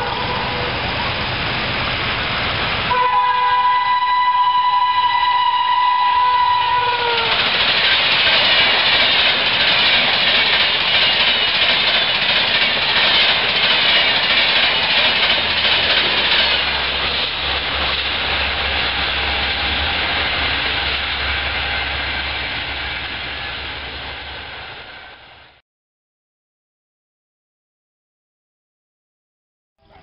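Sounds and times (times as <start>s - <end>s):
train wheels rushing on rail: 0.0s - 25.6s.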